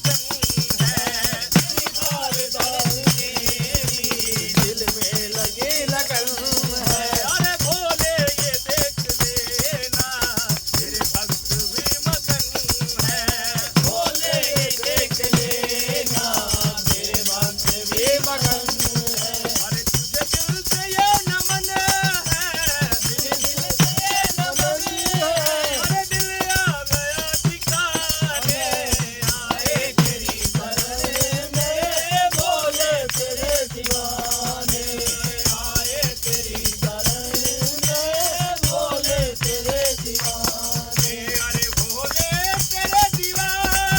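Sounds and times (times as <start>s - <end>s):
jingling hand percussion: 0.0s - 43.9s
men singing in chorus: 0.0s - 43.9s.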